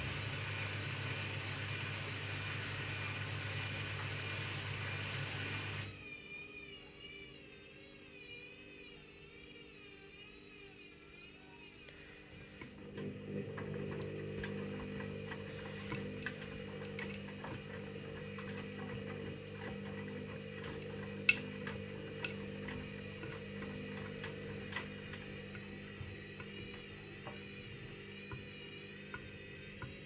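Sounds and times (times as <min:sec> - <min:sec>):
washing machine motor hum: 0:00.0 - 0:06.0, 0:12.0 - 0:30.0.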